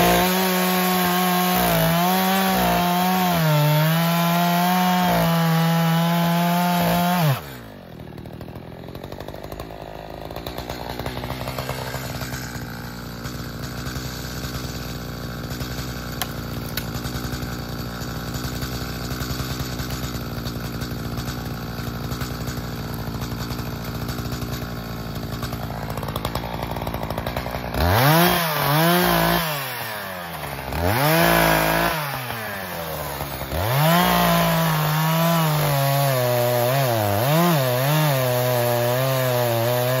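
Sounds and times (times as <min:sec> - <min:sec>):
chainsaw cutting log: 0:00.0 - 0:40.0
chainsaw idling and revving: 0:00.0 - 0:40.0.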